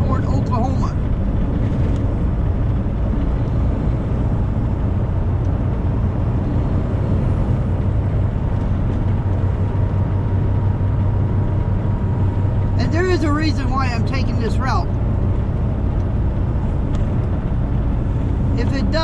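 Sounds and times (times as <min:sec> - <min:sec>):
road noise: 0:00.0 - 0:19.0
truck engine drone: 0:00.0 - 0:19.0.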